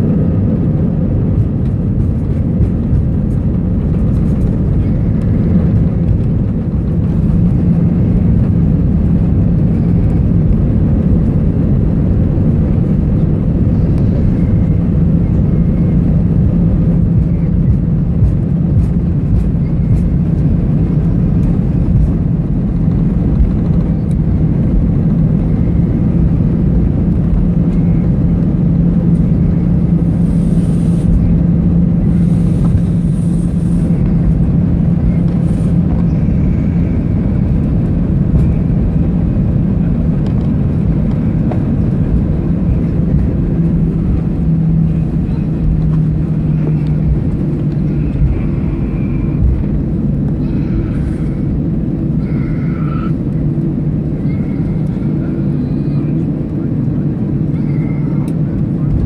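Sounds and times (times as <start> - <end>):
airliner engine hum: 0.0 - 59.0
deep rumble: 0.0 - 59.0.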